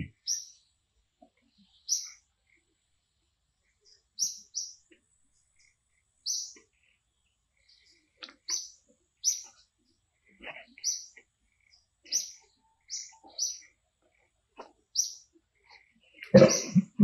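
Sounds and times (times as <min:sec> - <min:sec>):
bird chirping: 0:00.0 - 0:02.7, 0:03.7 - 0:17.0.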